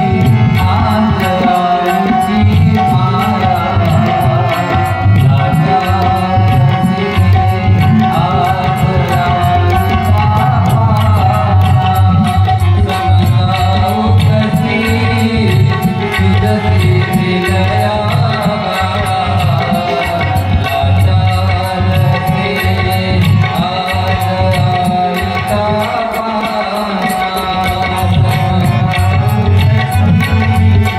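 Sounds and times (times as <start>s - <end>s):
devotional singing: 0.0s - 30.9s
tabla rhythm: 0.0s - 30.9s.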